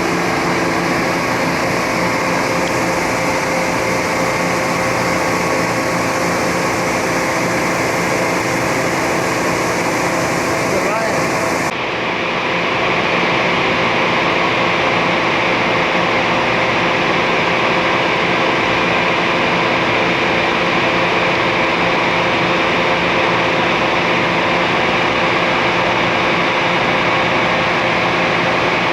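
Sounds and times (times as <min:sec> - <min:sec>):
machine hum with steady tones: 0:00.0 - 0:28.9.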